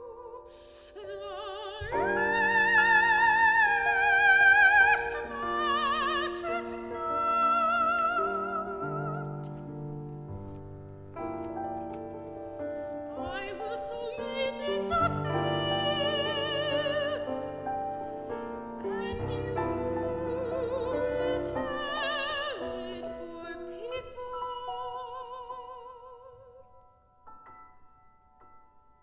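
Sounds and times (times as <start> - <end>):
soprano singing with vibrato: 0.0 - 10.1, 13.0 - 26.8
piano accompaniment: 0.0 - 25.9, 26.7 - 29.0.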